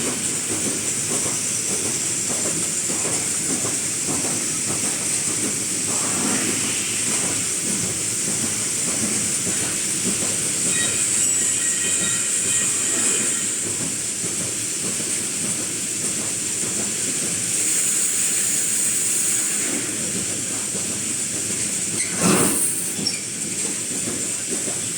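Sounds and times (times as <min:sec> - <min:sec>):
welding machine hiss: 0:00.2 - 0:23.5.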